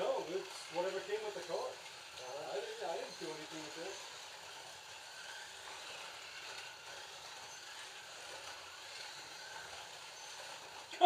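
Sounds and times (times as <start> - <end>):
slot cars hissing on track: 0.0 - 11.0.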